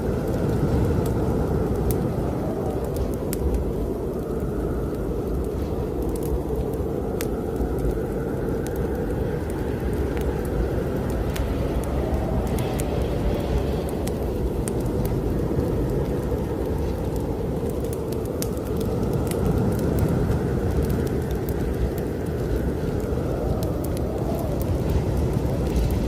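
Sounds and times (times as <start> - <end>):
strong wind blowing: 0.0 - 26.0
wood fire crackling: 0.0 - 26.0.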